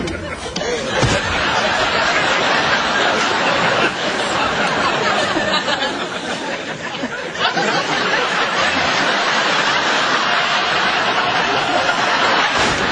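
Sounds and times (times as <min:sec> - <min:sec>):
people laughing: 0:00.0 - 0:12.9.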